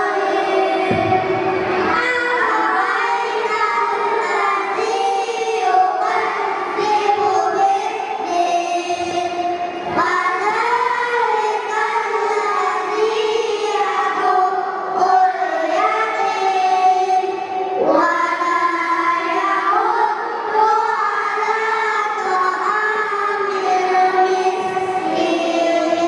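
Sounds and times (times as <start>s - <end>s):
children singing: 0.0s - 26.0s.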